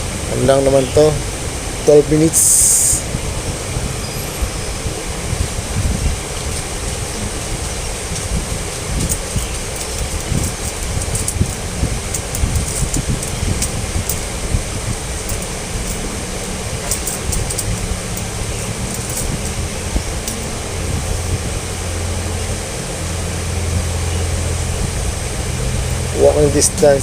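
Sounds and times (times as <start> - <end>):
low machine hum and rumble: 0.0 - 27.0.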